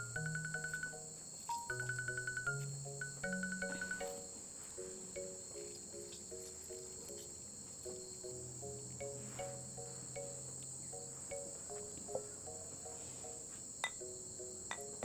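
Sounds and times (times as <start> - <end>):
crickets chirring: 0.0 - 15.0
simple repeating melody: 0.0 - 15.0.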